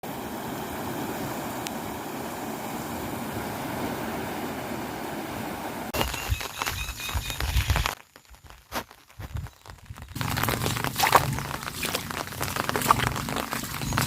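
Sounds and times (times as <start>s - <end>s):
rushing flowing water: 0.0s - 8.0s, 10.2s - 14.0s.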